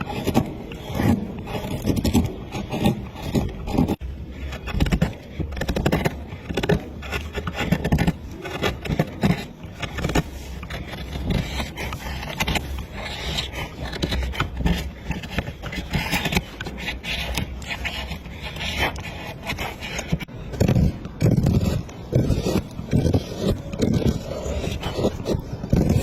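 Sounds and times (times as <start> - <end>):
tool scraping wood: 0.0 - 26.0.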